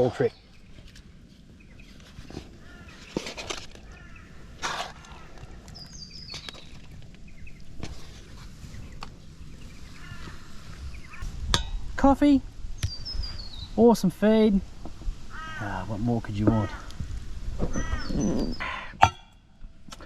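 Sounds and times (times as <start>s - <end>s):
birds calling: 0.0s - 12.0s, 12.7s - 14.1s, 15.2s - 19.4s
low outdoor background: 0.0s - 20.0s.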